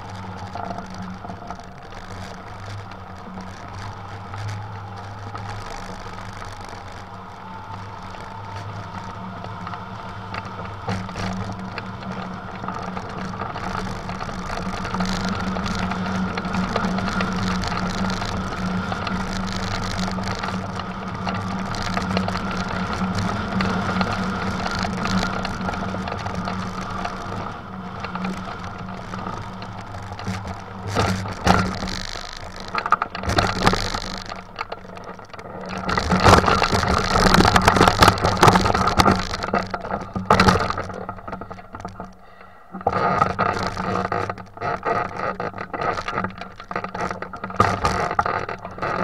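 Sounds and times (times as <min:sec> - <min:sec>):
steady low hum: 0:00.0 - 0:44.6
glider rattling: 0:00.0 - 0:49.0.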